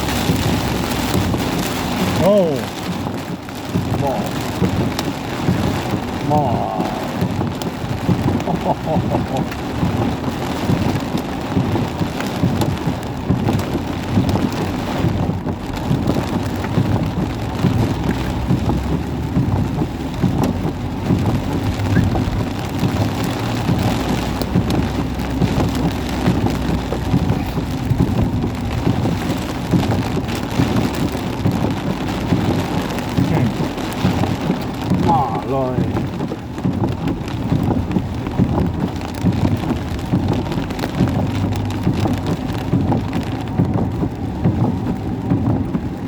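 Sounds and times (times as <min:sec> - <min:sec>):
heavy rain downpour: 0:00.0 - 0:46.0
low thunder rumble: 0:00.0 - 0:46.0
wind: 0:00.0 - 0:46.0.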